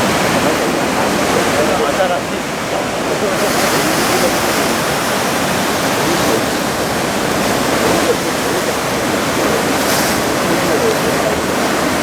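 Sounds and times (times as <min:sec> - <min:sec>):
heavy ocean surf roaring: 0:00.0 - 0:12.0.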